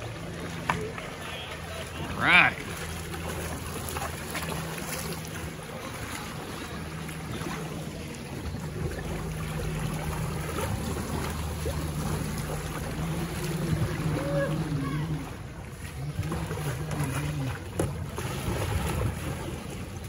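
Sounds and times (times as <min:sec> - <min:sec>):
low steady drone: 0:00.0 - 0:20.0
paddles splashing: 0:00.0 - 0:20.0.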